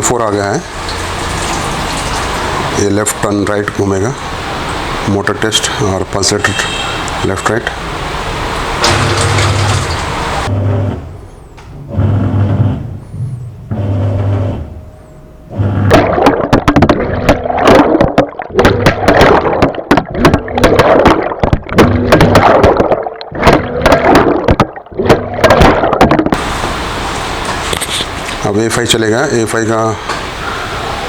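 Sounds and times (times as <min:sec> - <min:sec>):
water splashing and churning: 0:00.0 - 0:10.5, 0:15.6 - 0:31.0
washing machine motor humming: 0:00.0 - 0:31.0.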